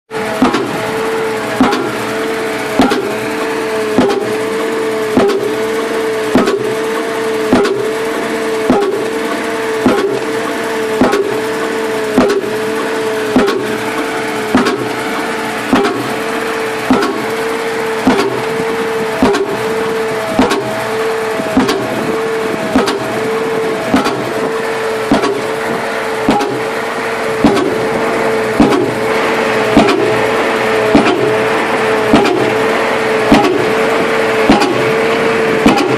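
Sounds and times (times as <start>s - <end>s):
engine running: 0.1s - 35.9s
pile driver hammering: 0.2s - 35.9s.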